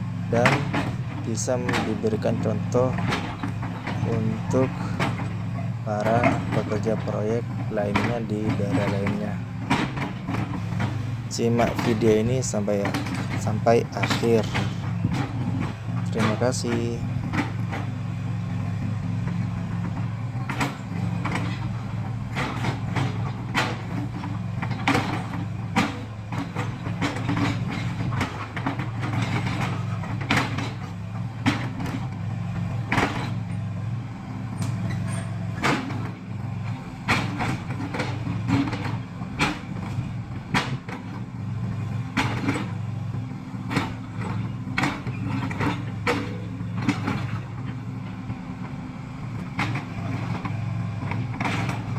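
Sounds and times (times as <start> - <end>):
excavator engine humming: 0.0 - 51.9
metal clanks and knocks: 0.1 - 51.9.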